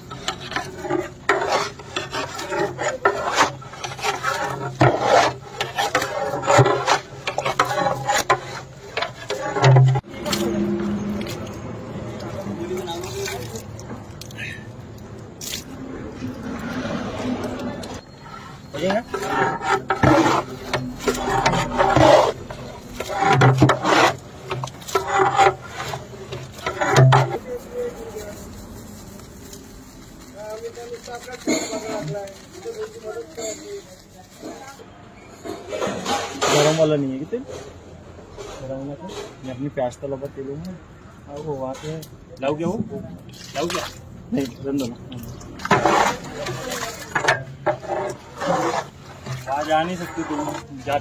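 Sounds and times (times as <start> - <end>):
metal stirrer scraping metal pot: 0.0 - 37.8, 41.6 - 51.0.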